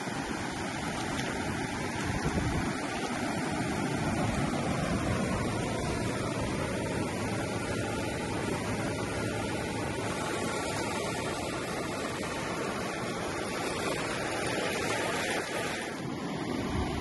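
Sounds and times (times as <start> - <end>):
surf rushing on beach: 0.0 - 17.0
wind buffeting microphone: 0.4 - 15.8, 16.5 - 17.0.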